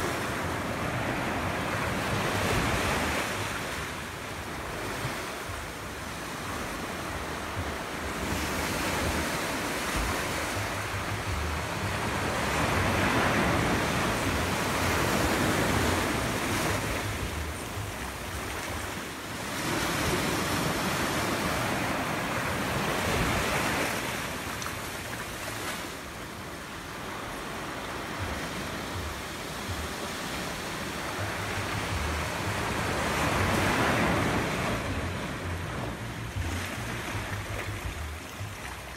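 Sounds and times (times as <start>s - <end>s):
sea surf washing ashore: 0.0s - 38.9s.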